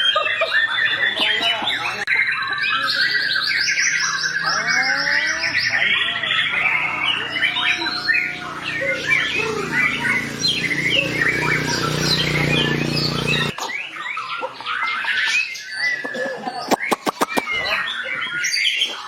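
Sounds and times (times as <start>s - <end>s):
songbird singing trills and whistles: 0.0s - 19.0s.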